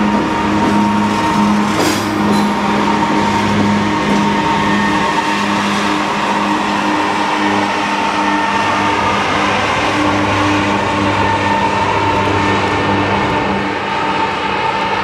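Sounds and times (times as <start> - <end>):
diesel locomotive engine drone: 0.0 - 15.0
wheels on steel bridge: 0.0 - 15.0.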